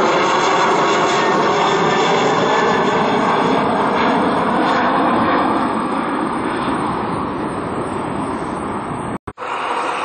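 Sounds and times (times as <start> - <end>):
jet airliner taking off: 0.0 - 10.0.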